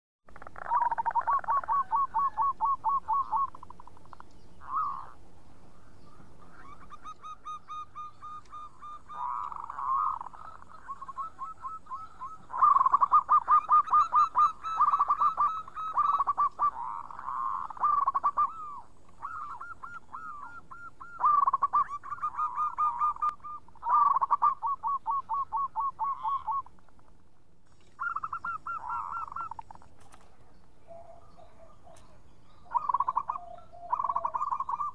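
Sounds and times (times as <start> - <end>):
doves cooing: 0.3 - 34.9.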